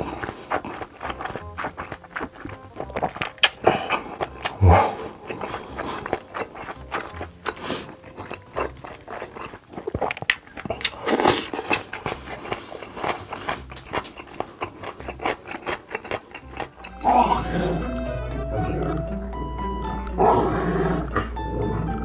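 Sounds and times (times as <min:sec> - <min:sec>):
wet chewing with mouth clicks: 0:00.0 - 0:17.8
slurping or swallowing: 0:00.0 - 0:17.9.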